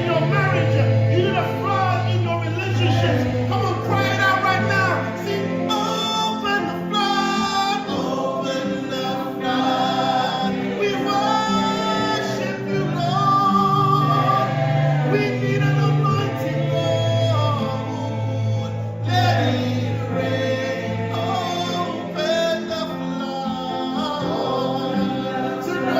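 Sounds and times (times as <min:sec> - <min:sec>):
bass and keyboard accompaniment: 0:00.0 - 0:25.9
choir singing gospel: 0:00.0 - 0:25.9.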